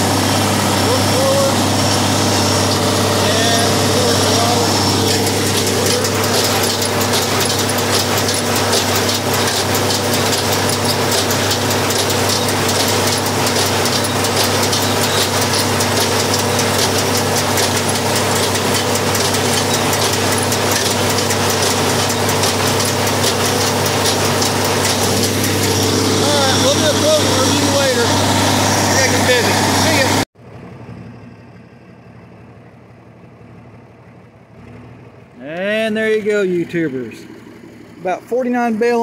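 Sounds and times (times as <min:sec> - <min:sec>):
tractor engine droning: 0:00.0 - 0:39.0.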